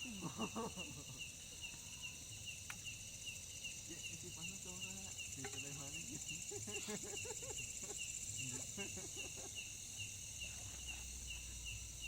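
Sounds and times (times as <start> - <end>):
insect chirping: 0.0 - 12.0
insects buzzing: 0.0 - 12.0.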